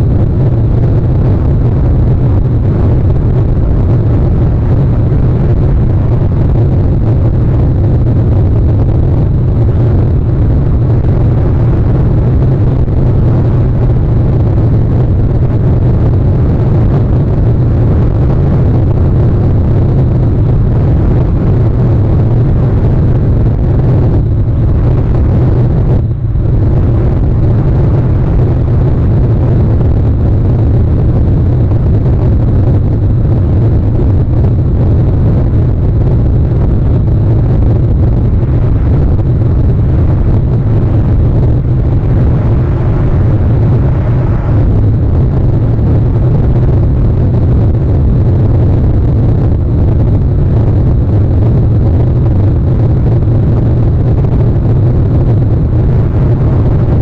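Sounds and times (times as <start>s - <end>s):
low rumbling noise: 0.0s - 57.0s.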